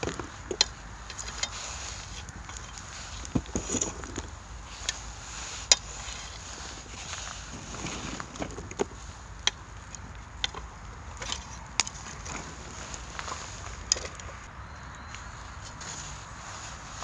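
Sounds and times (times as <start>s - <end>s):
sharp pops of burning cones: 0.0s - 15.9s
pine cones crackling in fire: 0.0s - 17.0s.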